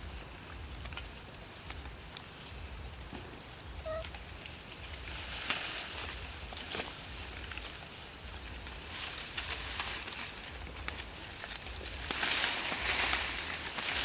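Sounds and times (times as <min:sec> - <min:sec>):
leaves and twigs rustling: 0:00.0 - 0:14.0.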